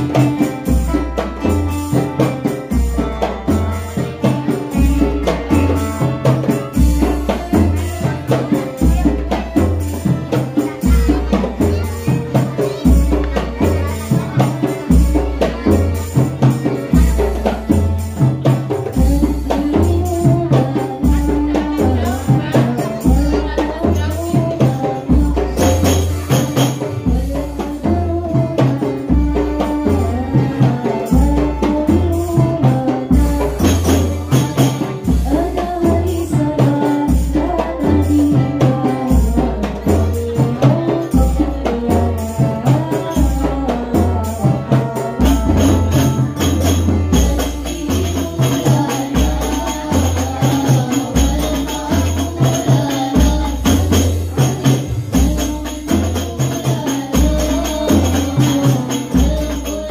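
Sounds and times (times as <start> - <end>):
frame drums playing: 0.0 - 59.9
girls singing devotional song: 0.0 - 59.9.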